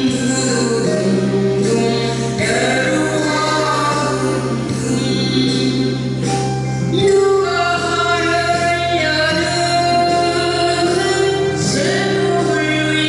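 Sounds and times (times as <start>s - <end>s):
instrumental backing track: 0.0s - 13.0s
woman singing into a microphone: 0.0s - 13.0s.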